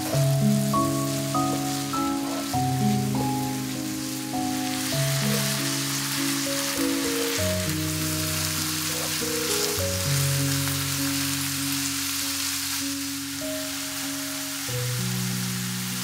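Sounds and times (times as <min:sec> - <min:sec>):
onions sizzling in oil: 0:00.0 - 0:16.0
soft background music: 0:00.0 - 0:16.0.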